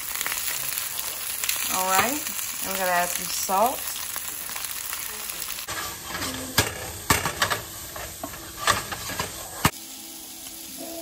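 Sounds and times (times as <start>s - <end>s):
beans sizzling in oil: 0.0s - 11.0s.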